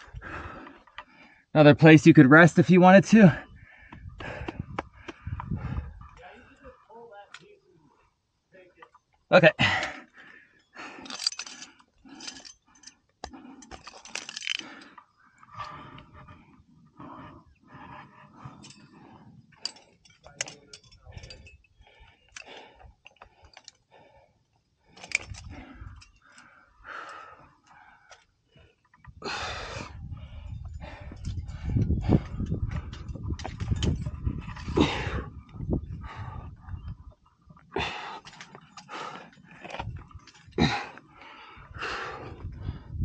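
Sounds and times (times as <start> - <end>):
metal climbing gear clinking: 0.4 - 3.9, 8.6 - 43.0.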